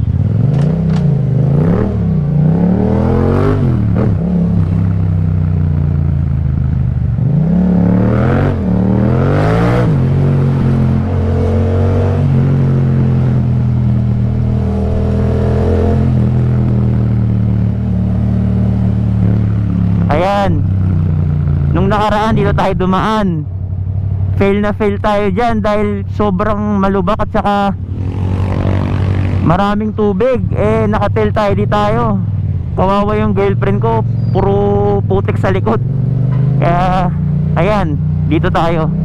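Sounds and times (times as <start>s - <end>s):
motorcycle engine accelerating: 0.0s - 26.0s, 27.4s - 39.0s.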